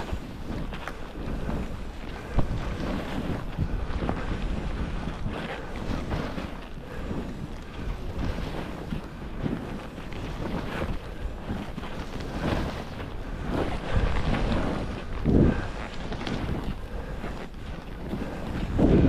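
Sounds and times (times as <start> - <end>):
skis hissing through snow: 0.0 - 19.0
wind rushing over microphone: 0.0 - 19.0.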